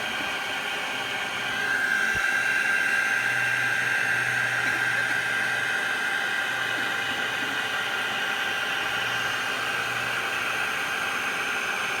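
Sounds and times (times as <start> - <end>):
steady high whine: 0.6 - 11.6.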